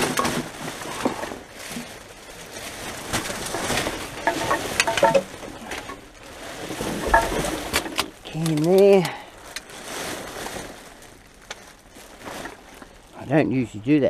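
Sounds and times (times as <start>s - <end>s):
plastic bags rustling: 0.0s - 14.0s.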